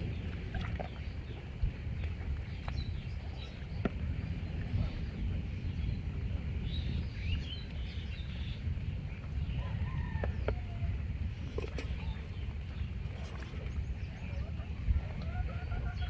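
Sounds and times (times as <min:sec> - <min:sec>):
birds chirping: 0:00.0 - 0:16.0
wind on microphone: 0:00.0 - 0:16.0.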